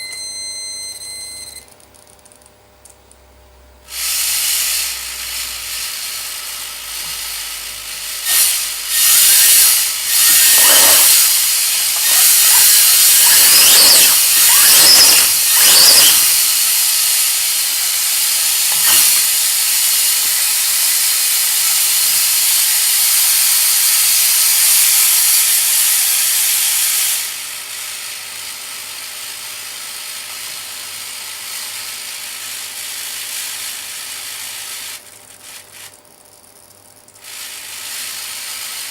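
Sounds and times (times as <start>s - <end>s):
model engine whirring: 3.9s - 36.0s, 37.2s - 38.9s.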